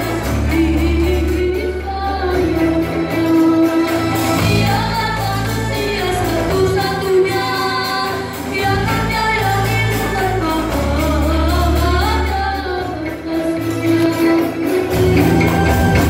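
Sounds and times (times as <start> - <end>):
children singing through microphones: 0.0 - 16.0
frame drums: 0.0 - 16.0
steady bass notes: 0.0 - 16.0.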